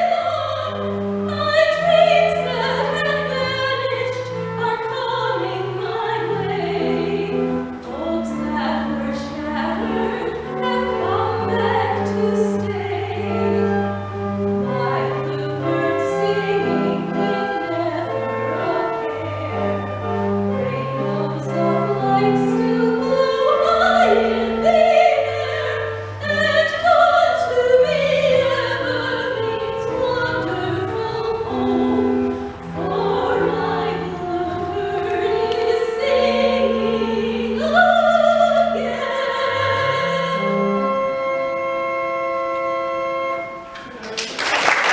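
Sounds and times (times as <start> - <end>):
person singing with vibrato: 0.0 - 41.3
organ chords: 0.0 - 44.9.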